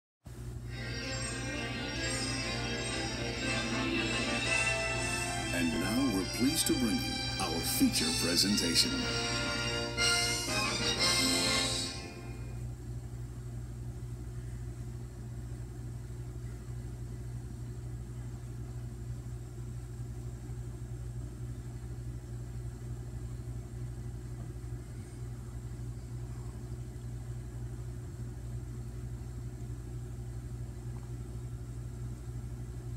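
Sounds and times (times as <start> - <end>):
television hum with faint hiss: 0.3 - 32.9.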